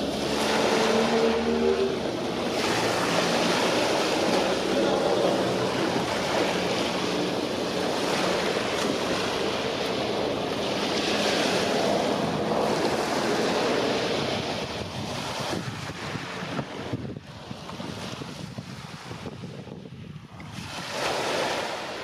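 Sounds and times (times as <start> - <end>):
sea waves washing: 0.0 - 22.0
wind on microphone: 0.0 - 22.0.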